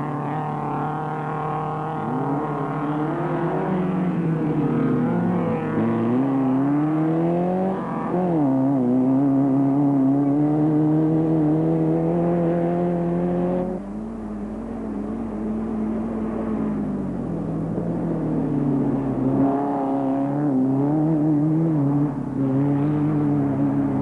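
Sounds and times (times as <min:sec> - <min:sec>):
race vehicle engine revving: 0:00.0 - 0:24.0.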